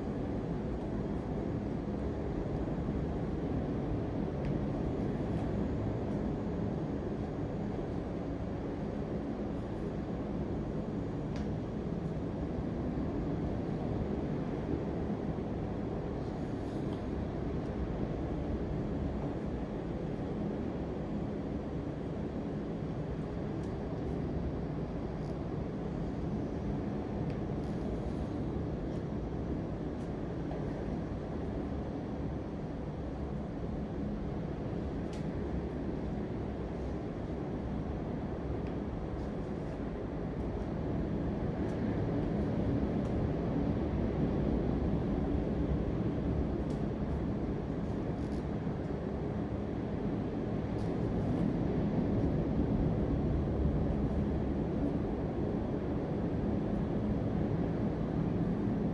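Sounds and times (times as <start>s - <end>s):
low rumbling background noise: 0.0s - 58.9s.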